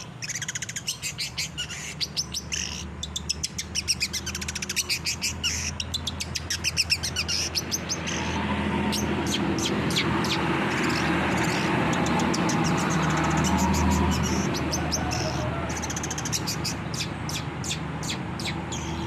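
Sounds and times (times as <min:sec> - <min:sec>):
bird chattering song: 0:00.0 - 0:19.0.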